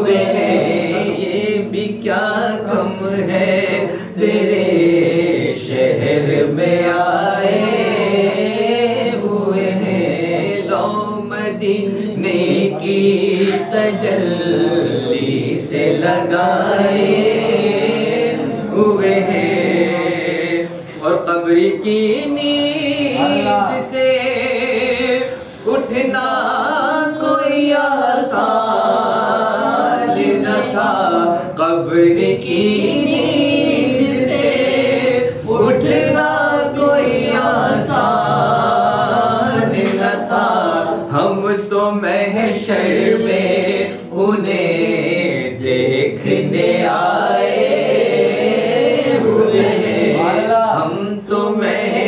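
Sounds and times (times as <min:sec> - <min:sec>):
man singing unaccompanied: 0:00.0 - 0:52.0.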